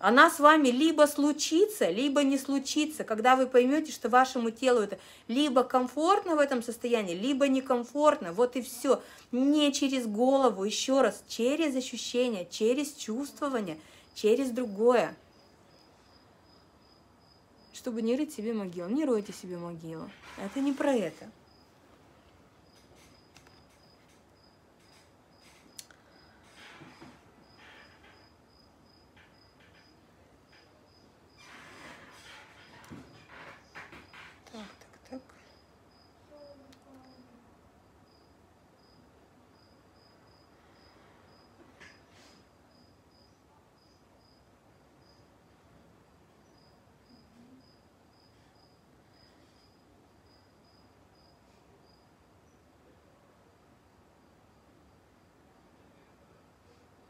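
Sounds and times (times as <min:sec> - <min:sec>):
cricket chirping: 0:00.3 - 0:56.4.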